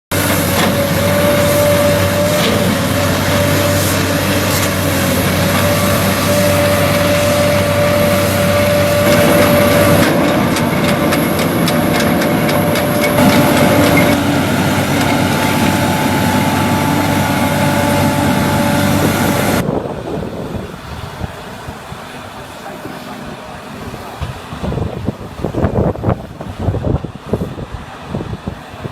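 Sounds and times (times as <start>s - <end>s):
high whine: 0.1s - 24.9s
diesel engine running under load: 0.1s - 28.9s.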